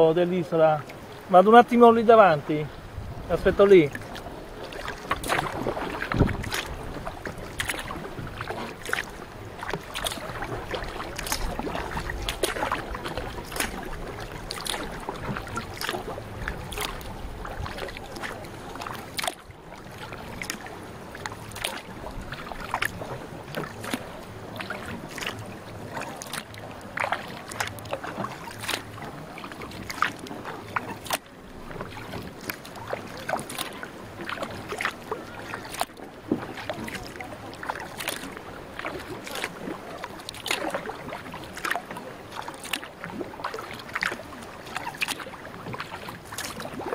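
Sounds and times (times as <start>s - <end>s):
paddle splashing in water: 0.0s - 46.9s.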